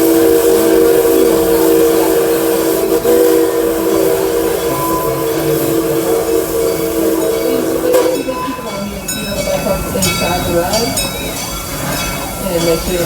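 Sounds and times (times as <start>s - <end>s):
steam locomotive chime whistle: 0.0s - 13.0s.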